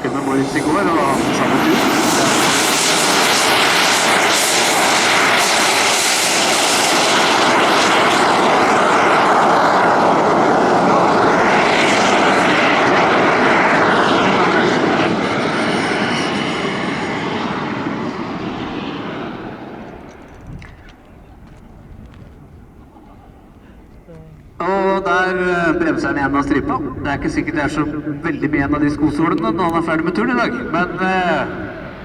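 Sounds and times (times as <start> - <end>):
jet turbine running: 0.0 - 32.0.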